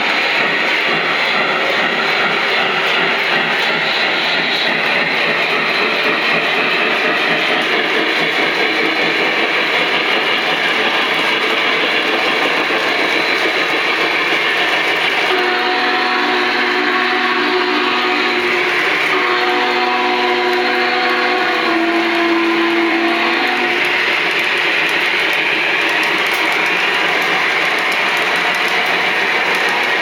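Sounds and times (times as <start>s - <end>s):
model trains rolling rumble: 0.0s - 30.0s.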